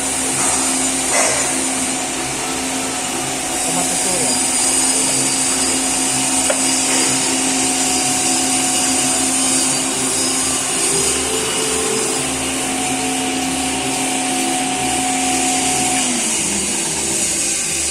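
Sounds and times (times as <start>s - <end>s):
gear whine: 0.0s - 17.9s
metal lathe running: 0.0s - 17.9s.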